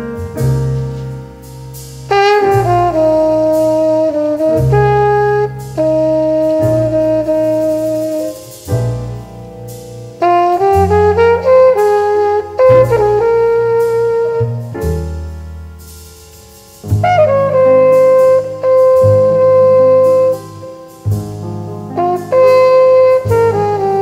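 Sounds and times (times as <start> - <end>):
horn chords: 0.0 - 24.0
steady bass line: 0.0 - 24.0.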